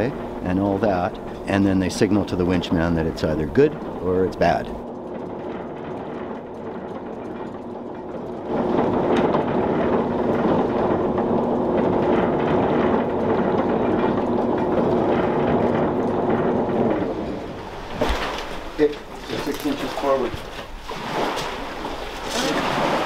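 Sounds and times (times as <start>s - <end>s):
winch running and rattling: 0.0s - 23.0s.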